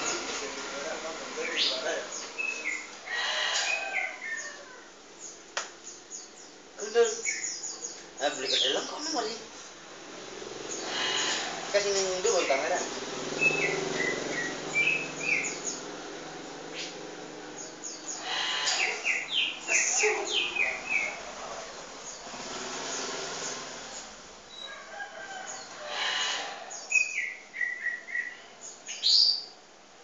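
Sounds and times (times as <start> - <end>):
small birds chirping: 0.0 - 29.6.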